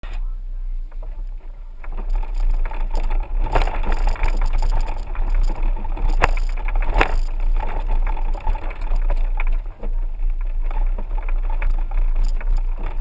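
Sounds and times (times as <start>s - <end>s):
vehicle rumbling on dirt road: 0.0s - 13.0s
vehicle knocks and rattles: 0.8s - 13.0s.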